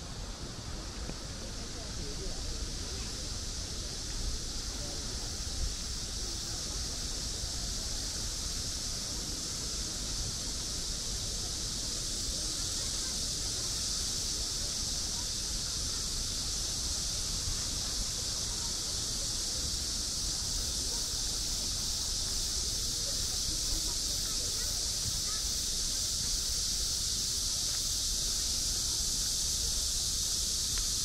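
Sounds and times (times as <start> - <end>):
high-pitched hiss: 0.0 - 31.0.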